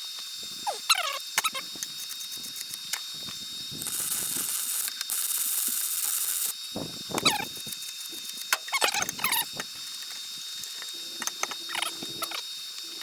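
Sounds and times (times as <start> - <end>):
welding arc crackling and hissing: 0.0 - 13.0.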